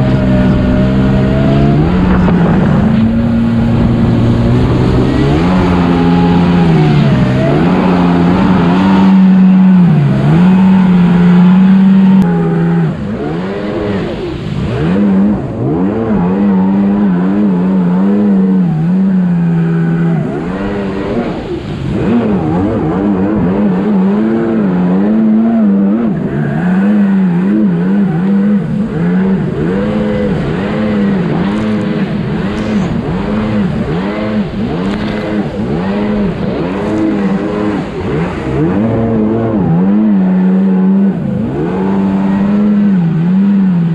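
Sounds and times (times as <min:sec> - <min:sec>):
jet ski engine revving: 0:00.0 - 0:43.9.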